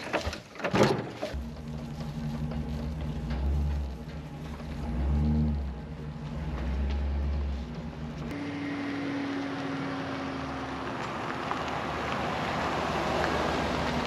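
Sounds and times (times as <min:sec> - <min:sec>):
pickup truck engine humming: 0:01.4 - 0:14.0
truck driving past: 0:01.4 - 0:14.0.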